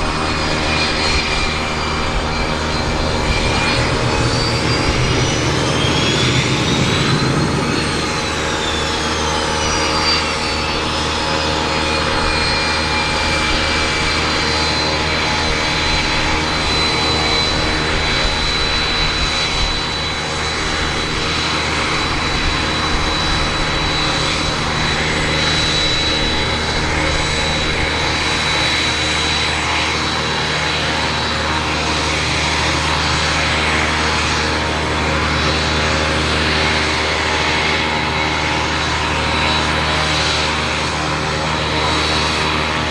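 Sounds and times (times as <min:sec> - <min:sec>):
jet engine roar with high whine: 0:00.0 - 0:42.9.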